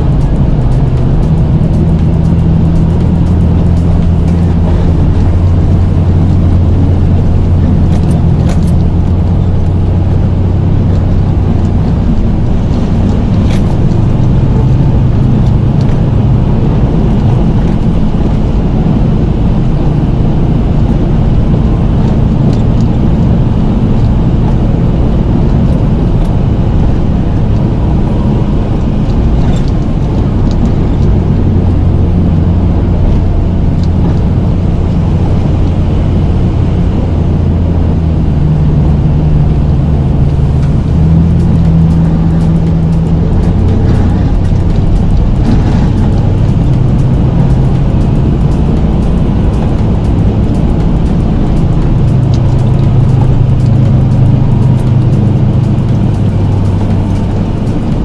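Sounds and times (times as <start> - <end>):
pickup truck engine running: 0.0 - 58.0.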